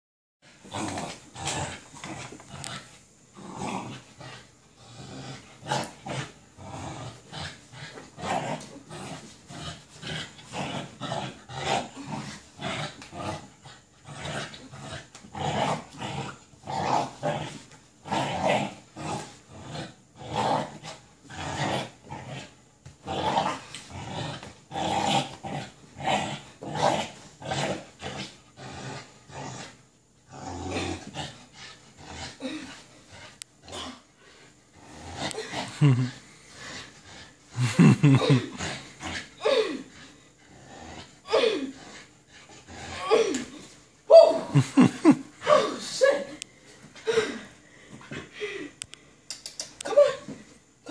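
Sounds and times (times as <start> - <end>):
puppy growling: 0.4 - 43.6, 44.5 - 45.2.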